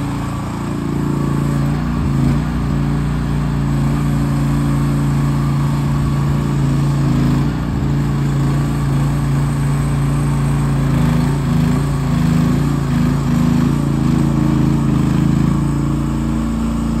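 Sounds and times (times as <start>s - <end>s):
mini excavator engine running: 0.0s - 17.0s.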